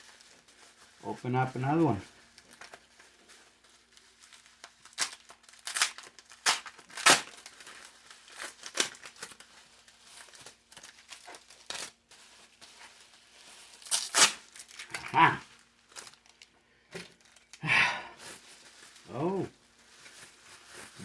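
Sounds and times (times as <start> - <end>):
packaging tearing and crumpling: 0.0 - 21.0.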